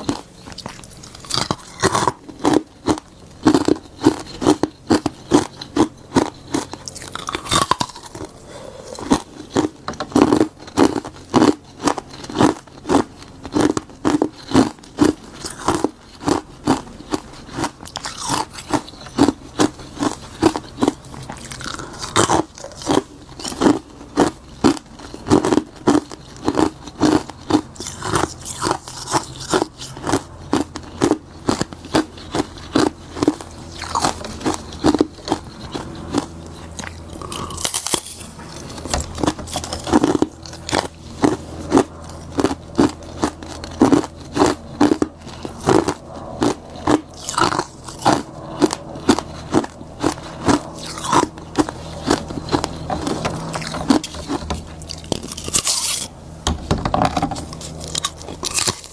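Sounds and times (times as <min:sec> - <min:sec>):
person crunching ice: 0:00.0 - 0:56.4, 0:57.1 - 0:58.9.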